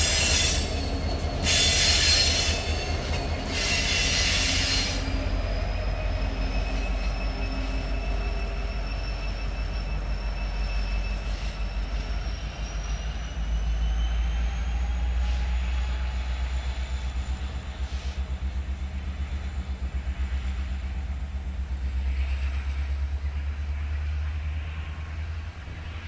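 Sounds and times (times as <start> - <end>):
high wheel squeal: 0.0 - 20.9
diesel locomotive rumbling past: 0.0 - 26.0.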